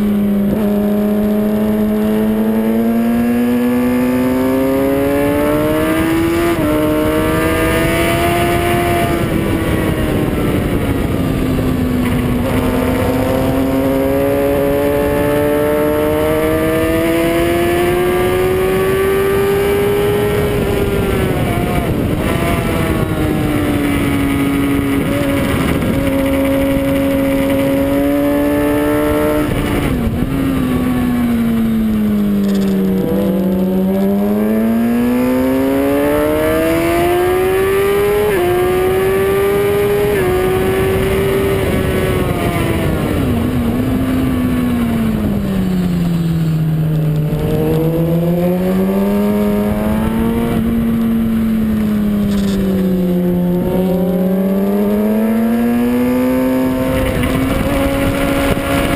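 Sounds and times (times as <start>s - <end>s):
motorcycle engine revving: 0.0s - 58.9s
wind rush: 0.2s - 58.9s.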